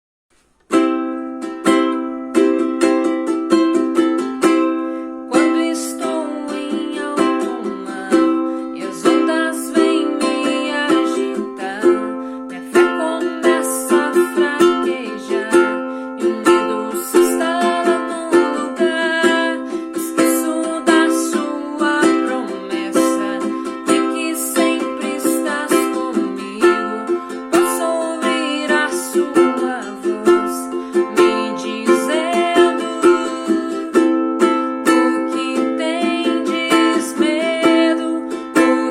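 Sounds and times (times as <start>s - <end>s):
plucked string melody: 0.3s - 38.9s.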